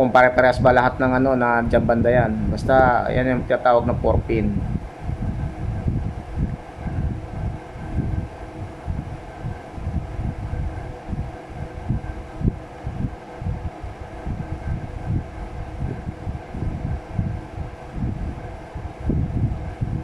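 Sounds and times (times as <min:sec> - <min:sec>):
steady hum: 0:00.0 - 0:20.0
wind buffeting microphone: 0:00.0 - 0:20.0.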